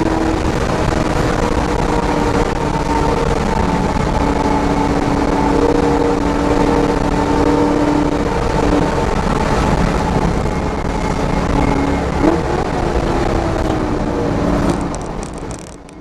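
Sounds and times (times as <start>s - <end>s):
car engine at high revs: 0.0s - 16.0s
road and wind noise: 0.0s - 16.0s.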